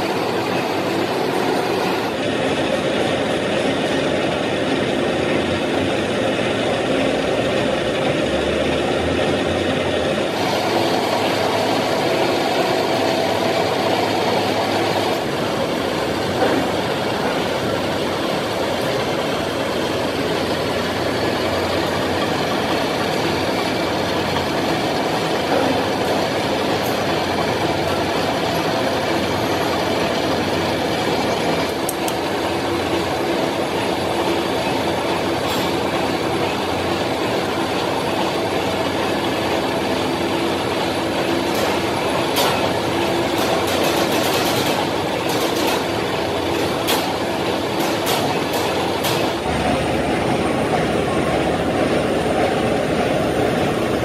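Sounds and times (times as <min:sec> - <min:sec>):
gear hobbing machine cutting: 0:00.0 - 0:54.0.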